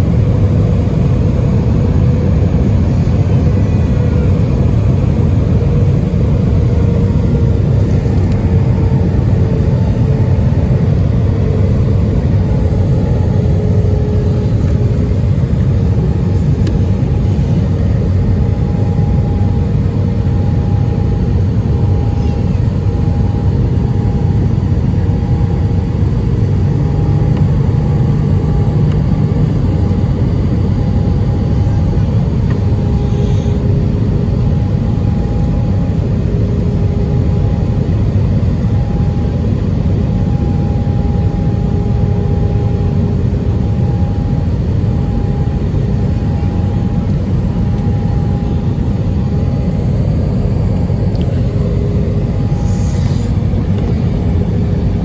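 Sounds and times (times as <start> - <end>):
airplane cabin engine rumble: 0.0 - 55.0.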